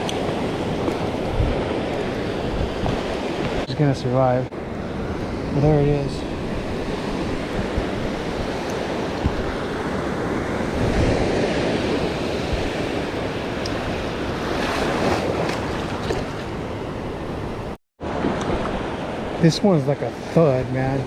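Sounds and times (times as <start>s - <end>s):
wind on microphone: 0.0s - 17.4s
ocean surf washing: 0.0s - 21.0s.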